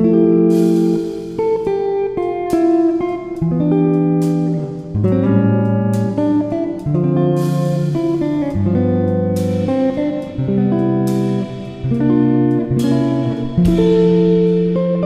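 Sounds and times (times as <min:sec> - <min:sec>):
plucked guitar background music: 0:00.0 - 0:15.0.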